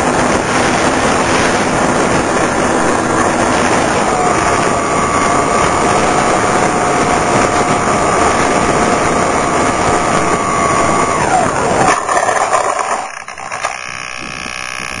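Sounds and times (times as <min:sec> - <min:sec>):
electric motors and propellers whining: 0:00.0 - 0:15.0
wind rushing over microphone: 0:00.0 - 0:15.0.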